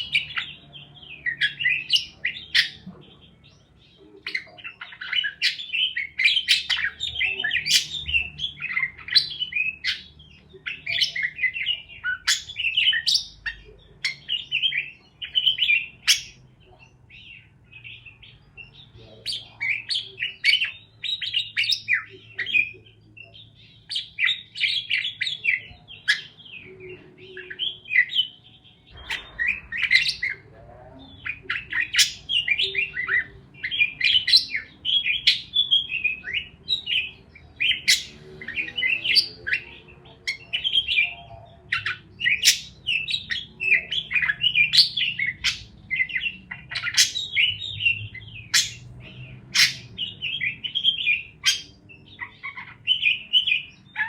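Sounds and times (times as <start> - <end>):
parakeets chirping and warbling: 0.0 - 54.0.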